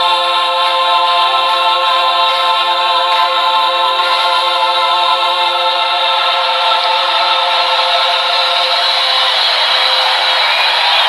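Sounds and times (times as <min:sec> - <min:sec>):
choir holding sustained chord: 0:00.0 - 0:11.0.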